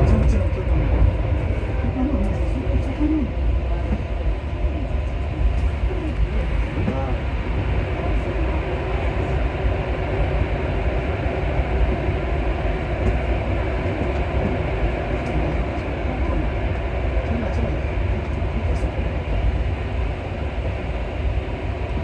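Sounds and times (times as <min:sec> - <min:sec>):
metro train rumbling in tunnel: 0:00.0 - 0:22.0.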